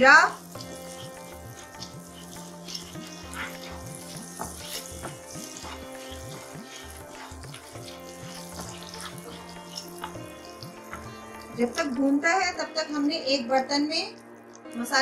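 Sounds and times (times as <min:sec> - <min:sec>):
wooden spatula stirring: 0:00.0 - 0:12.2
butter sizzling in a frying pan: 0:00.0 - 0:13.0
soft background music: 0:00.0 - 0:15.0.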